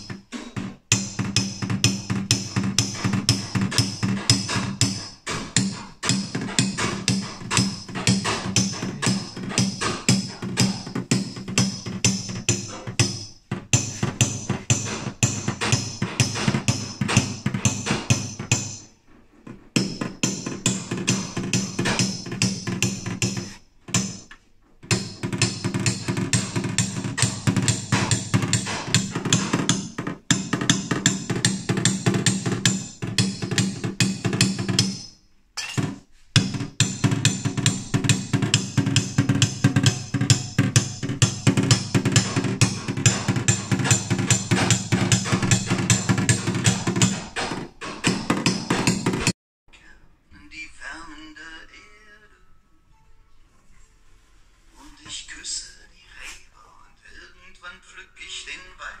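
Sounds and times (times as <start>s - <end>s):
drum kit beat: 0.0s - 19.0s, 19.7s - 24.3s, 24.9s - 49.4s.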